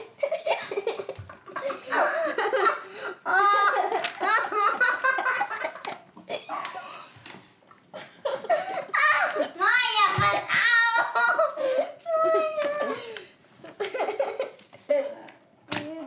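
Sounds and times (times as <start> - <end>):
children laughing: 0.0 - 7.2, 7.9 - 15.4.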